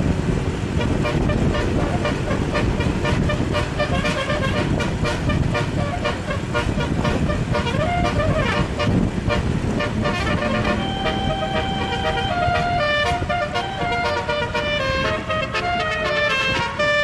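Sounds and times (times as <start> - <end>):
low rumble: 0.0 - 15.4
bus horn playing notes: 0.4 - 17.0.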